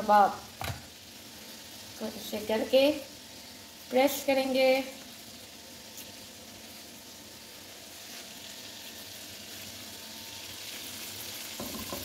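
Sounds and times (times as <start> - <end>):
meat patties sizzling in oil: 0.0 - 12.0.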